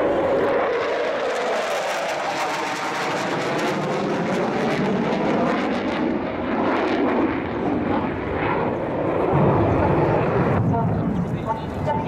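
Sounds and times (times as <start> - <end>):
loud jet engine noise: 0.0 - 12.0.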